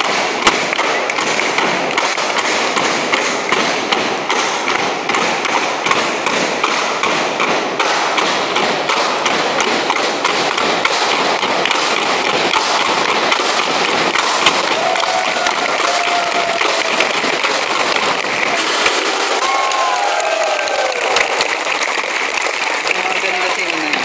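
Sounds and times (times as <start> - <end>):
background noise: 0.0 - 24.0.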